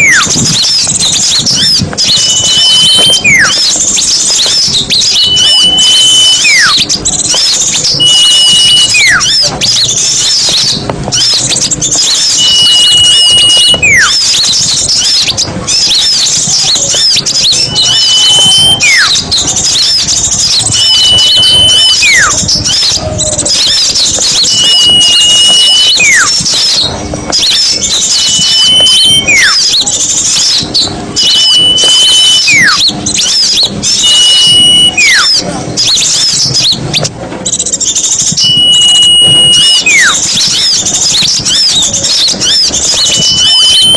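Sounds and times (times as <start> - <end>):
bird whistle with falling slur: 0.0 - 43.9
small songbirds chattering: 0.0 - 43.9.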